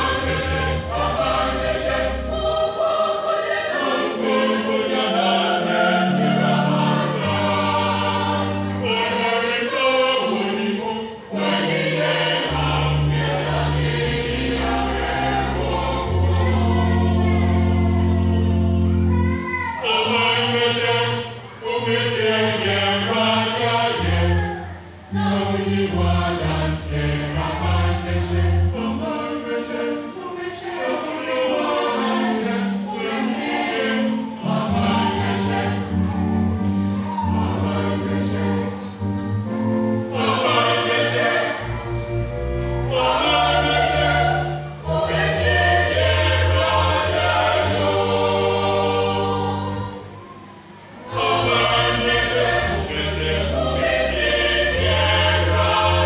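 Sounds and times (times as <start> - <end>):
choir singing gospel song: 0.0 - 56.0.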